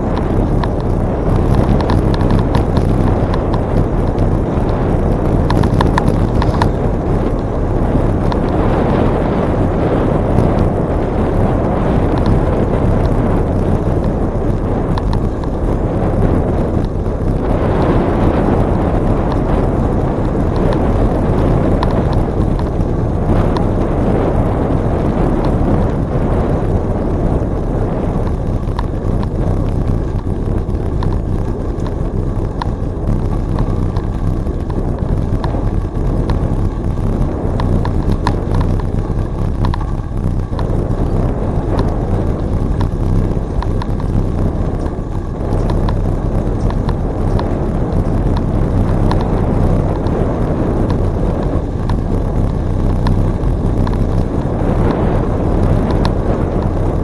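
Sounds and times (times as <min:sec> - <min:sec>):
bicycle tyre noise: 0:00.0 - 0:57.0
faint ticks: 0:00.0 - 0:57.0
wind buffeting microphone: 0:00.0 - 0:57.0.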